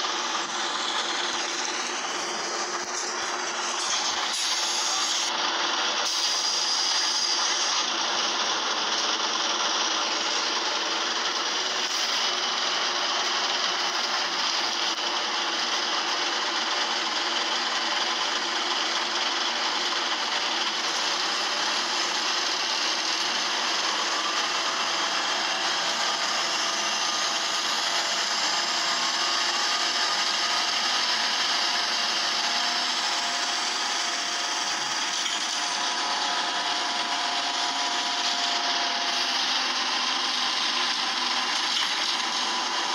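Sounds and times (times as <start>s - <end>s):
bus engine and road noise: 0.0s - 42.9s.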